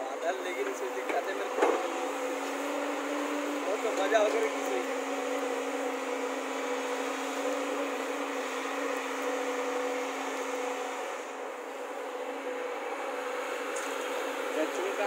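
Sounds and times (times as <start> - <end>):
excavator diesel engine drone: 0.0 - 15.0
hydraulics working: 0.0 - 15.0.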